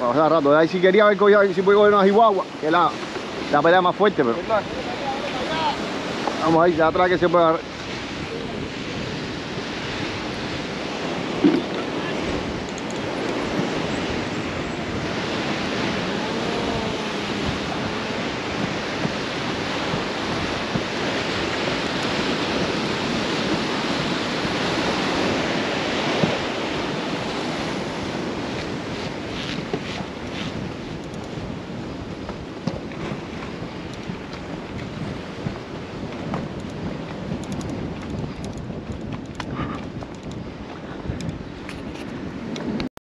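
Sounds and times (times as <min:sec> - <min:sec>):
ocean surf rushing: 0:00.0 - 0:42.9
wind buffeting microphone: 0:00.0 - 0:42.9.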